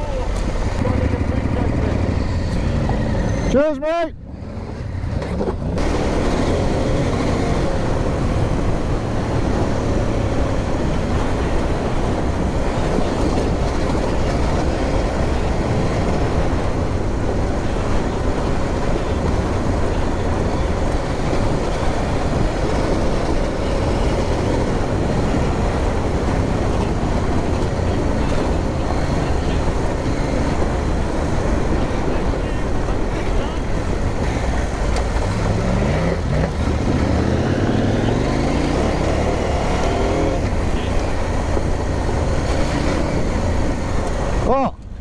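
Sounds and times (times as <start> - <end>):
motorcycle engine running: 0.0 - 3.5, 4.2 - 45.0
rough track noise: 0.0 - 45.0
wind noise: 4.2 - 45.0.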